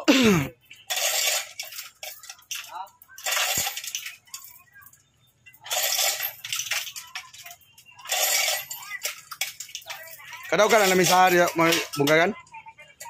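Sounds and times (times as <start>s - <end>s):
hoist chain rattling: 0.9s - 4.9s, 5.6s - 12.3s.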